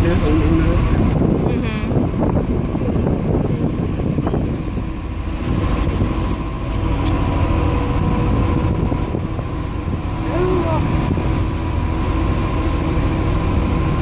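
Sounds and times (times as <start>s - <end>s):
vehicle rumble inside car: 0.0s - 14.0s.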